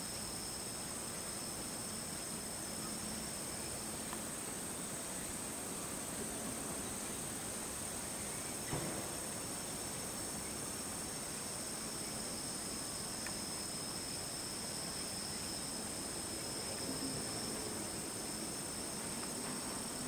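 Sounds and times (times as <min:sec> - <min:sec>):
faint background hiss: 0:00.0 - 0:20.0
insects singing: 0:00.0 - 0:20.0.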